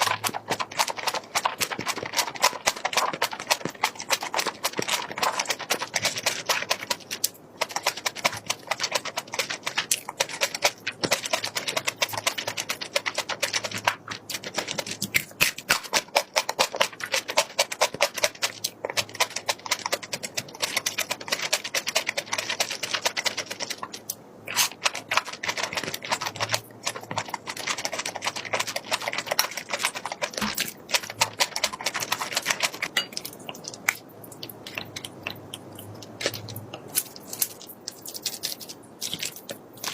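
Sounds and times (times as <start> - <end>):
crunchy chewing food: 0.0 - 39.9.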